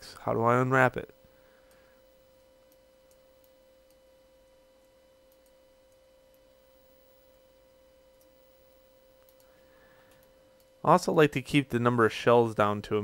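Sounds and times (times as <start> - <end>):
faint electrical whine: 0.0 - 13.0.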